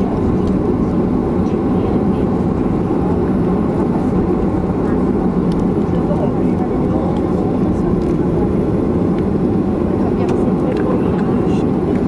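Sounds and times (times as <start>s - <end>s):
aircraft cabin engine noise: 0.0s - 12.0s.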